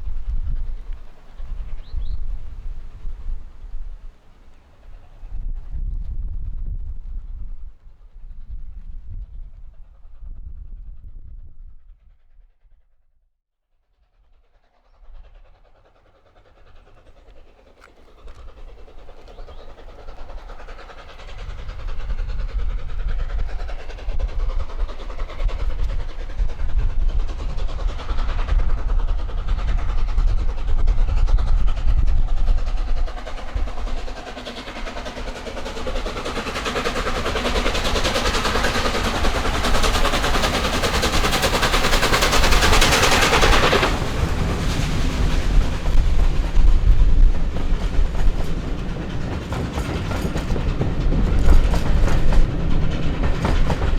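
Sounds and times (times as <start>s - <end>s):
steam locomotive passing: 0.0s - 12.0s, 13.9s - 53.9s.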